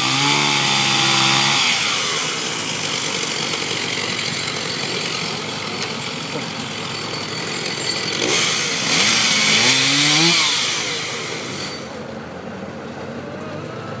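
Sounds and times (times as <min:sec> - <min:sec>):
chainsaw running: 0:00.0 - 0:12.1.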